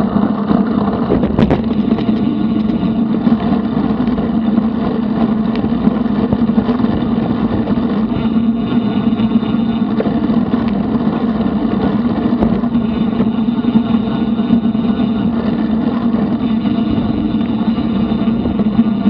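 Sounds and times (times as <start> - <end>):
bicycle tyres on pavement: 0.0 - 19.0
low hum: 0.0 - 19.0.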